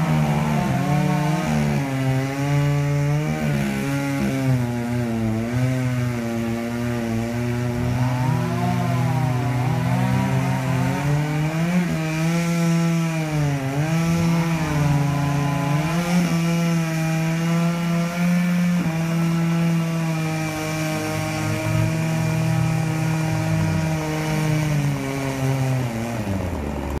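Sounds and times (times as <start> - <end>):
chainsaws cutting wood: 0.0 - 27.0.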